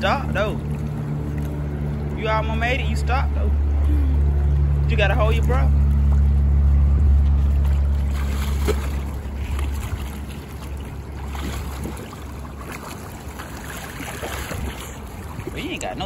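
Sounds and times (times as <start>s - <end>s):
low machine hum: 0.0s - 16.0s
swimmer splashing in pool: 0.0s - 16.0s.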